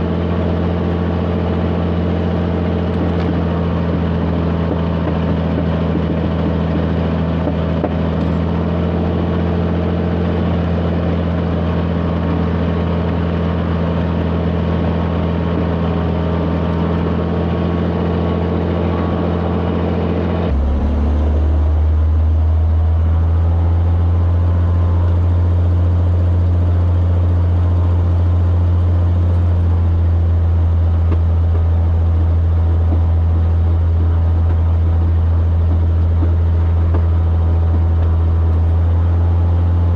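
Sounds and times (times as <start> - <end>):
aircraft engine running rough: 0.0 - 39.9.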